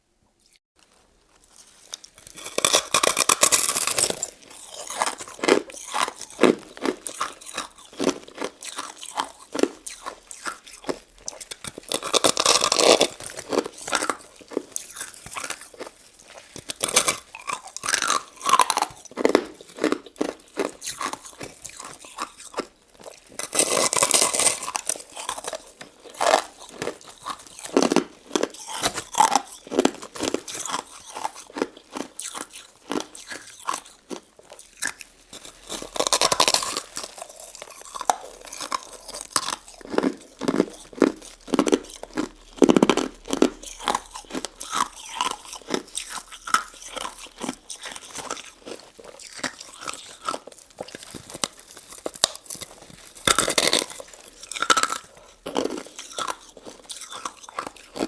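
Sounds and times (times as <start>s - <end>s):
chewing and crunching: 0.4s - 58.0s.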